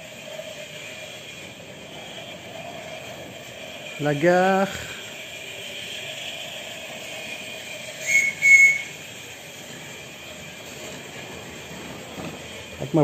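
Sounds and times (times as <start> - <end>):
model steam locomotive whistle: 0.0 - 11.4
steady background noise: 0.0 - 13.0.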